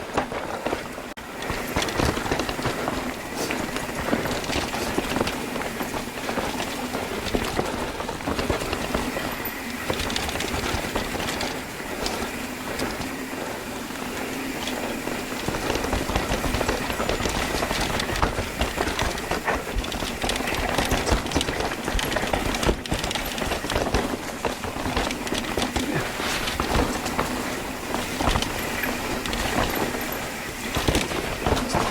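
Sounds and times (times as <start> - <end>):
bike rattling clatter: 0.0 - 31.9
bike tyre rumble: 0.0 - 31.9.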